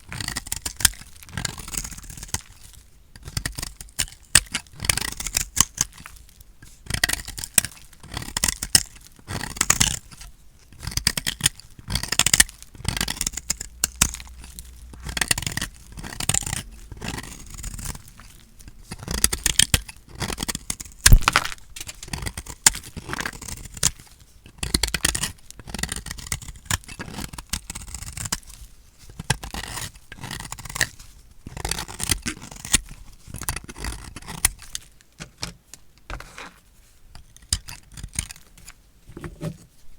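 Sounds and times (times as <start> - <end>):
blade cutting dry soap: 0.0 - 36.6, 37.2 - 39.7.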